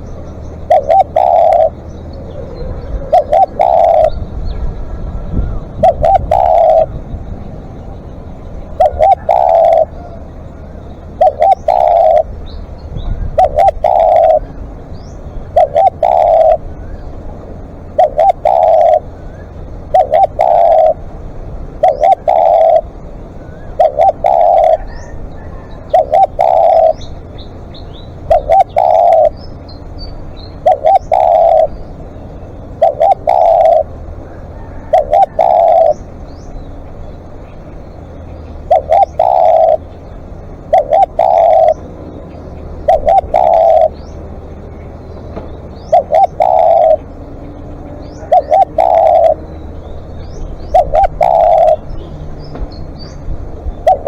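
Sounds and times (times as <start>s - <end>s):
dove cooing: 0.0s - 54.0s
small birds chirping: 0.0s - 54.0s.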